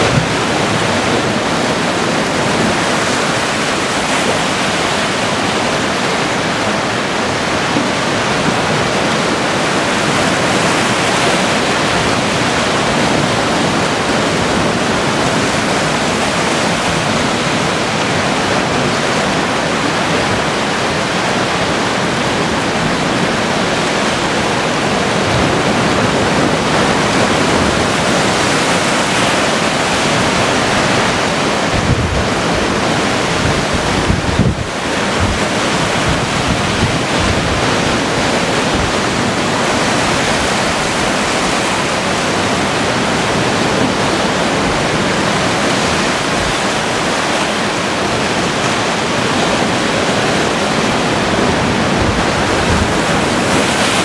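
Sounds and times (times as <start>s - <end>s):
sea waves breaking on rocks: 0.0s - 54.0s.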